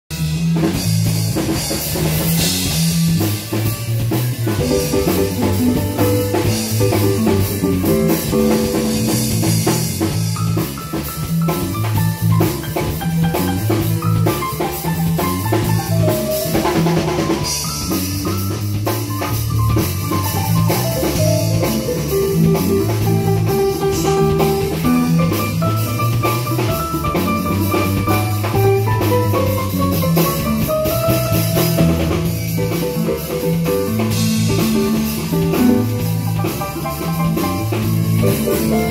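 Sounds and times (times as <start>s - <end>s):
bass line: 0.1s - 38.9s
blues synthesizer lead: 0.2s - 38.9s
drum beat: 0.2s - 38.9s.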